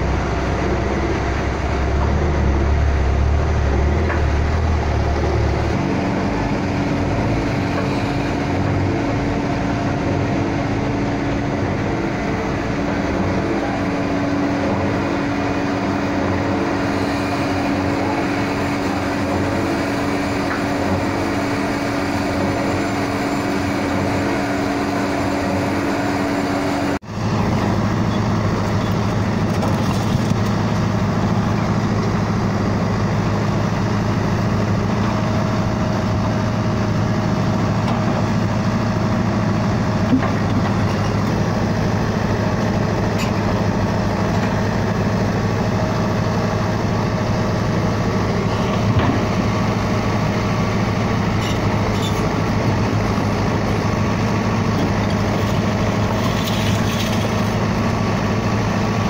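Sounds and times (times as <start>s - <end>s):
backhoe diesel engine running: 0.0s - 59.0s
concrete pump humming: 0.0s - 59.0s
mixer truck diesel engine: 0.0s - 59.0s.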